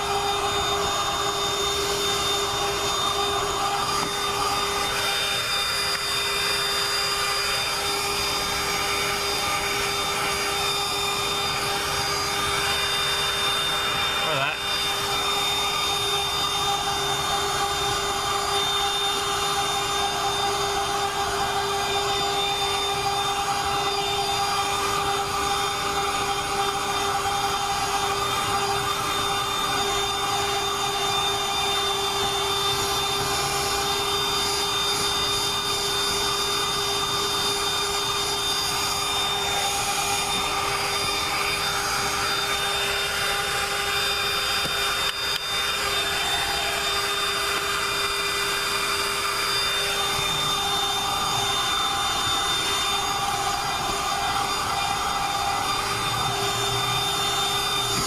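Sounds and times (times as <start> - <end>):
hand vacuum running: 0.0 - 58.0.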